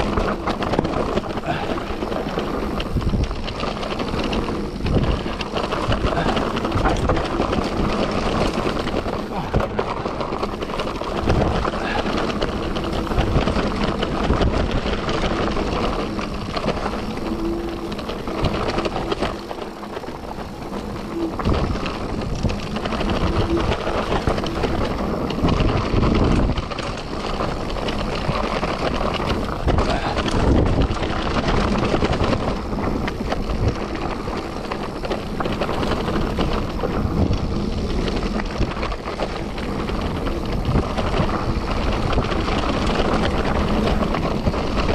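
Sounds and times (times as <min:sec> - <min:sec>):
bike knocks and rattles: 0:00.0 - 0:44.9
bike tyres rolling on trail: 0:00.0 - 0:44.9
wind buffeting microphone: 0:00.0 - 0:44.9.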